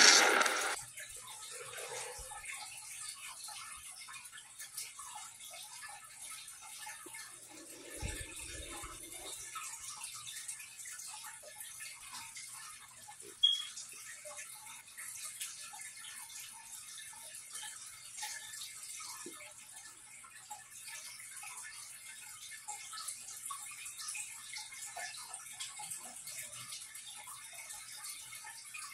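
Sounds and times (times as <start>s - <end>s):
faint trickle of running water: 0.0s - 28.9s
small water drips: 0.4s - 28.9s.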